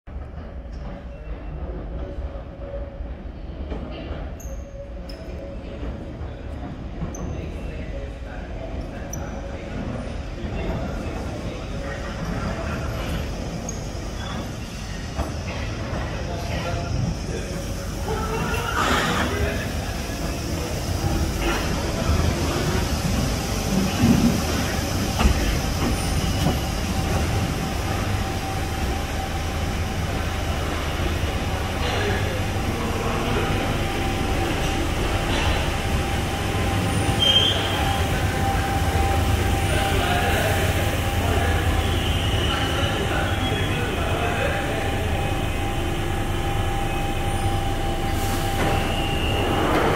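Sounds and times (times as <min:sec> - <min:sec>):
train wheel-on-rail rumble: 0:00.1 - 0:49.9.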